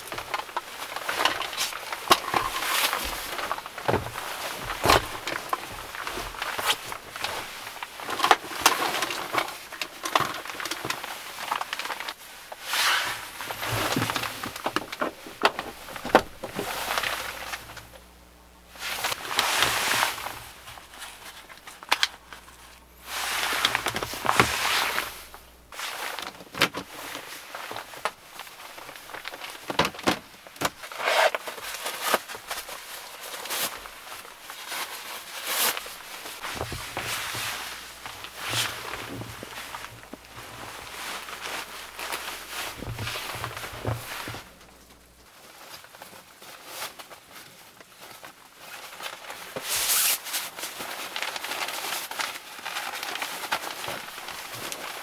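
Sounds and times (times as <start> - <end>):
nylon fabric rustling: 0.0 - 55.0.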